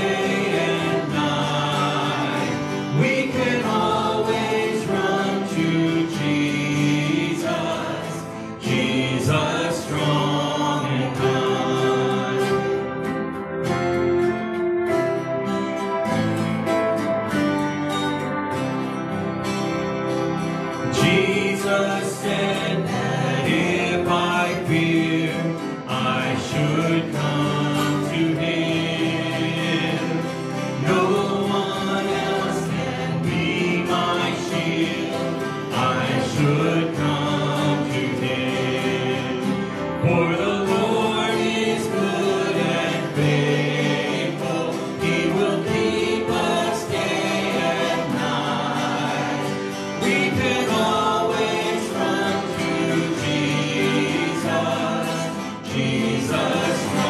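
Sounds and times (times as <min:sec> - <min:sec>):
man and woman singing hymn: 0:00.0 - 0:13.6, 0:20.6 - 0:57.0
acoustic guitars: 0:00.0 - 0:57.0.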